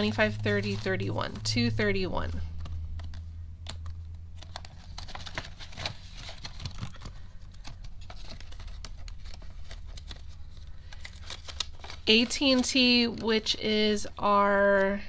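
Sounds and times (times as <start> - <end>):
low steady hum: 0.0 - 15.0
plastic pockets and banknotes rustling: 2.3 - 14.4.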